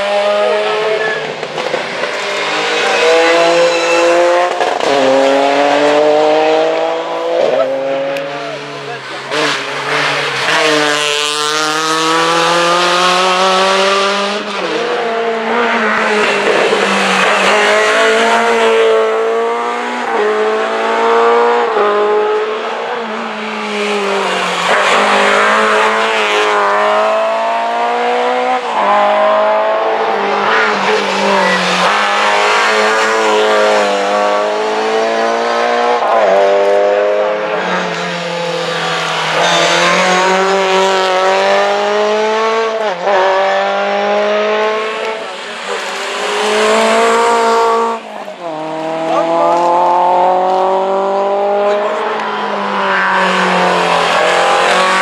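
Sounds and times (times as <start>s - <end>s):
rally cars accelerating past: 0.0s - 55.0s.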